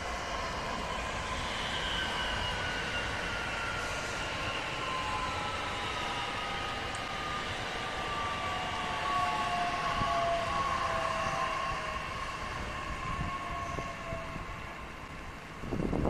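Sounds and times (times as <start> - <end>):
electric train drive whining: 0.0 - 16.0
wheels rumbling on rail: 0.0 - 16.0.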